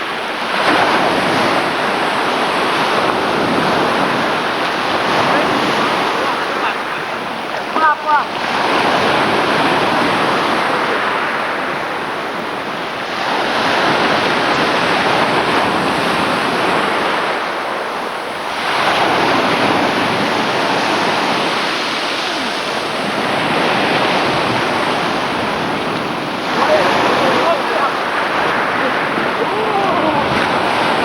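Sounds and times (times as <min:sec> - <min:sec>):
sea waves washing in: 0:00.0 - 0:31.0.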